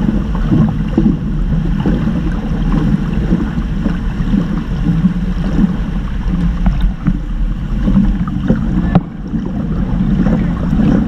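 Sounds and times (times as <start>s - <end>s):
underwater churning water: 0.0s - 11.0s.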